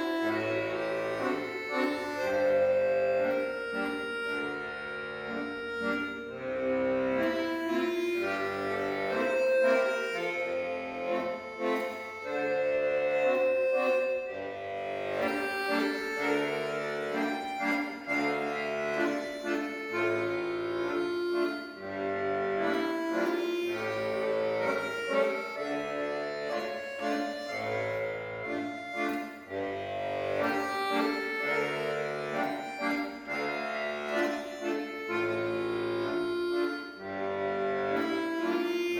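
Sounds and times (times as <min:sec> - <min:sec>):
instrumental background music: 0:00.0 - 0:38.9.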